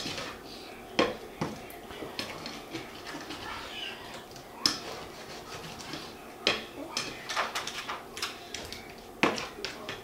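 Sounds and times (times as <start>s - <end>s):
spatula stirring food in a skillet: 0.0s - 10.0s.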